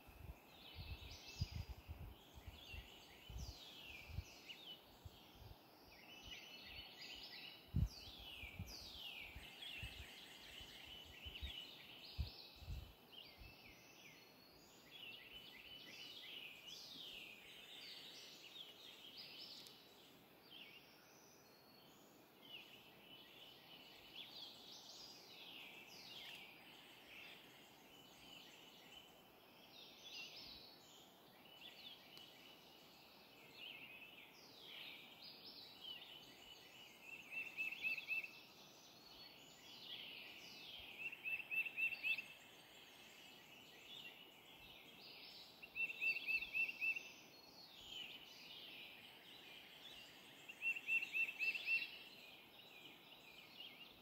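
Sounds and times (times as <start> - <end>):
birds calling and singing: 0.1 - 54.0.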